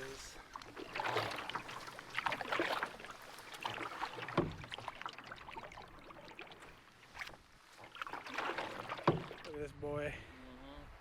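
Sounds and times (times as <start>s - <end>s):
paddle splashing in water: 0.0s - 9.6s.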